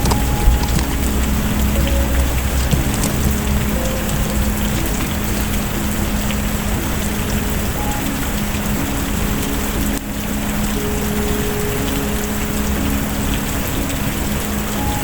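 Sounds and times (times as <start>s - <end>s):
small crackles and ticks: 0.0s - 15.0s
steady rain hissing: 0.0s - 15.0s.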